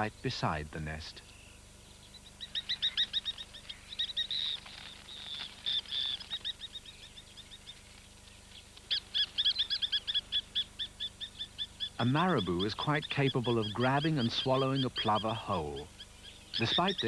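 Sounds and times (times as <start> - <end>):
plovers alarm calling: 2.1 - 7.7, 8.9 - 17.0.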